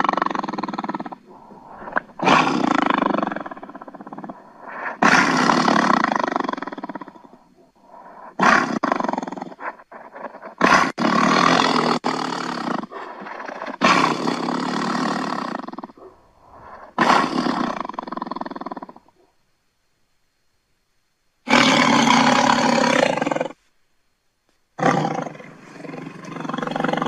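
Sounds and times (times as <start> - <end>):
big cat roaring: 0.0 - 19.1, 21.5 - 23.6, 24.8 - 27.0.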